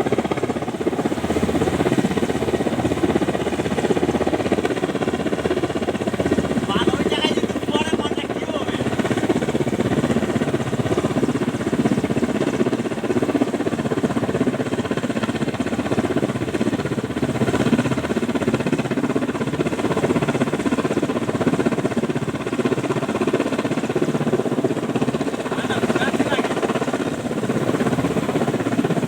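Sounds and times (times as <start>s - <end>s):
helicopter rotor drone: 0.0s - 29.0s.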